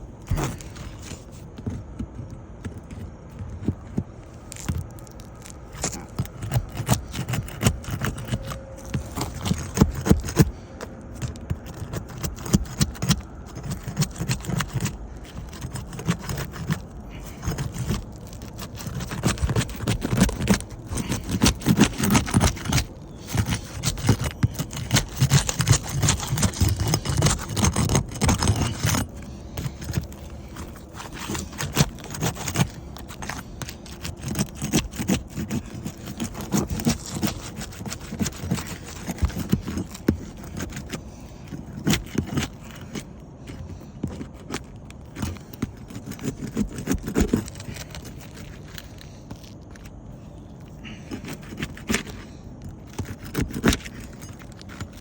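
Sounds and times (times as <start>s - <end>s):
shingles scraping and crackling: 0.0s - 55.0s.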